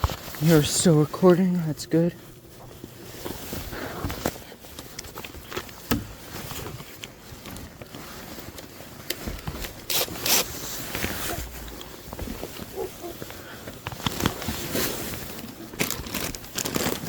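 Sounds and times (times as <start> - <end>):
handling clicks and knocks: 2.2 - 17.0.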